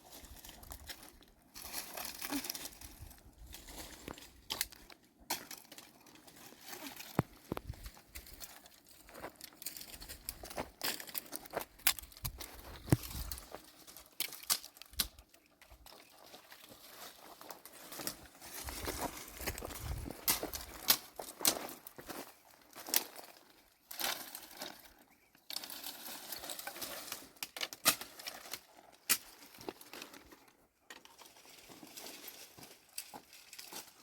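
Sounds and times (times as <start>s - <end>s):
dry twigs and leaves crunching: 0.0s - 34.0s.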